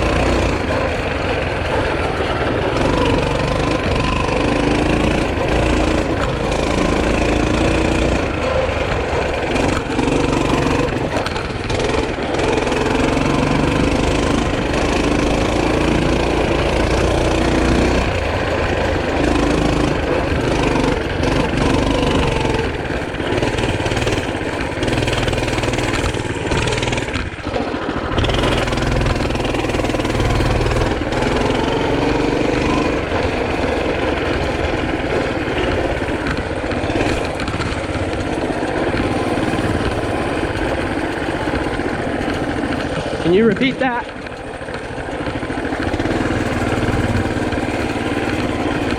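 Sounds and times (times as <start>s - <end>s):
small engine revving: 0.0s - 48.9s.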